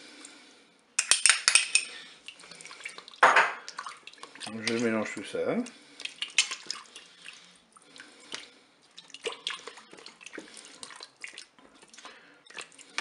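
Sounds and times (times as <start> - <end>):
wet sloshing and dripping: 1.5 - 13.0.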